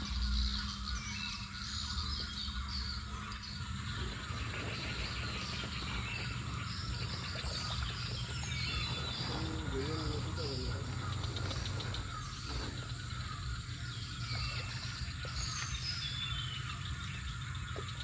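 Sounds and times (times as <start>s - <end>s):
birds chirping: 0.0s - 18.0s
low wavering bird calls: 0.0s - 18.0s
steady low rumble: 0.0s - 18.0s.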